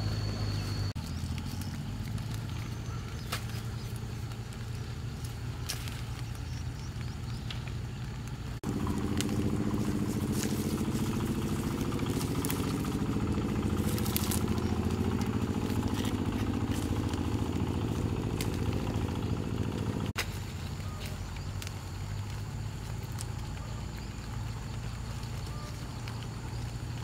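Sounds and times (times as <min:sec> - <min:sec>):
small motorbike engine running: 0:00.0 - 0:27.0.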